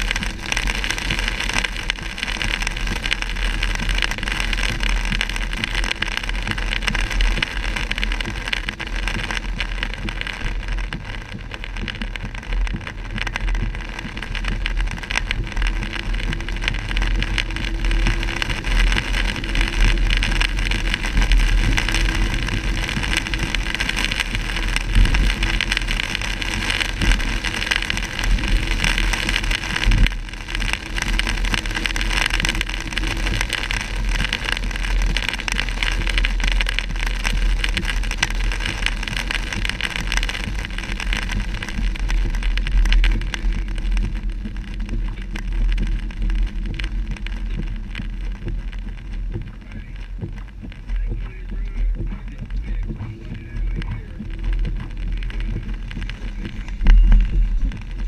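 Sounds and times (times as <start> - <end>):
low road rumble: 0.0 - 58.0
tyres hissing on wet road: 0.0 - 58.0.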